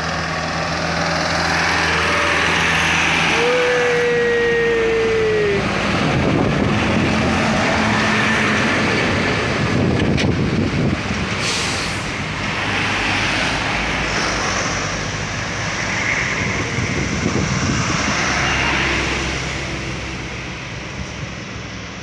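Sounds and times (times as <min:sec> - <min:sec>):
trucks and cars passing: 0:00.0 - 0:22.0.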